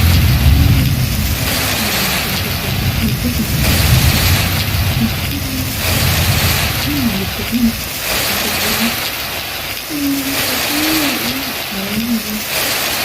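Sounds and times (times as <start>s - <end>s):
wind buffeting microphone: 0.0s - 12.2s
heavy rain hissing: 0.0s - 13.0s.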